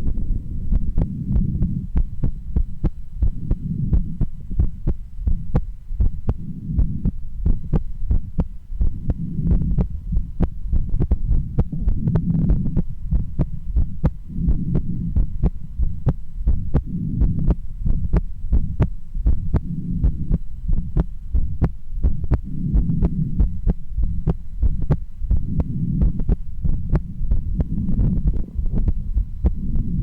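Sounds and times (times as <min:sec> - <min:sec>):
heartbeat through stethoscope: 0:00.0 - 0:30.0.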